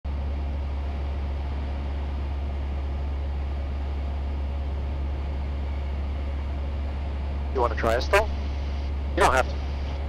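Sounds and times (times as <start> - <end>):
light aircraft engine drone: 0.1 - 10.0.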